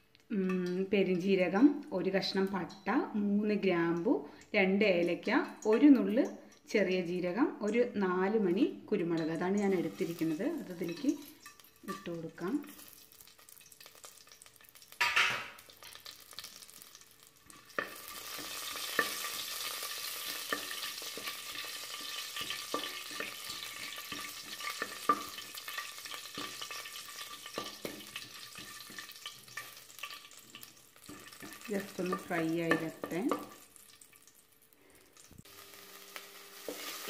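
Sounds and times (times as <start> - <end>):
spices sizzling in hot oil: 0.0 - 37.0.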